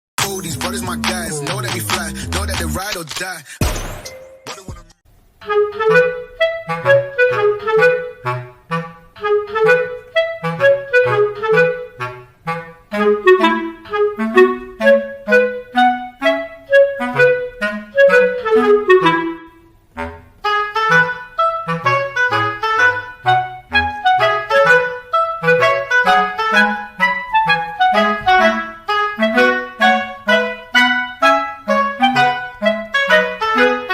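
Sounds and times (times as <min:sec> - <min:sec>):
instrumental background music: 0:00.2 - 0:03.0, 0:03.6 - 0:33.9.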